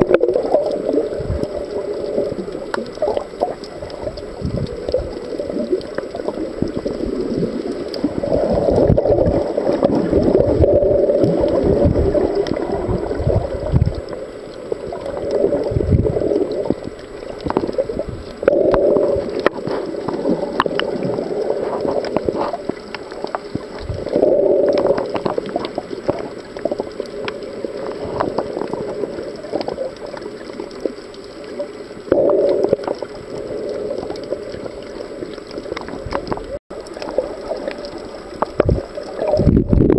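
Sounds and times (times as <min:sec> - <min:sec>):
crackling clicks: 0:00.0 - 0:39.9
muffled underwater water movement: 0:00.0 - 0:39.9
rush of water: 0:00.0 - 0:39.9.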